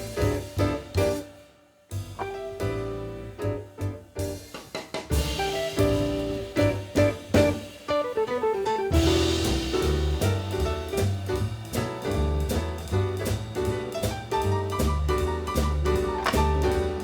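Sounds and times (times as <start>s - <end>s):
upbeat jazz music: 0.0s - 17.0s.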